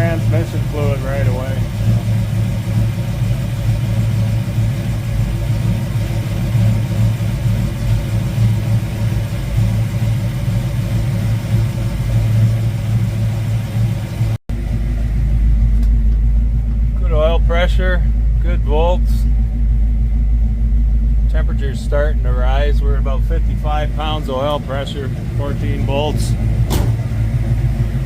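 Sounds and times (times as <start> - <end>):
vee eight engine rumbling: 0.0 - 28.0.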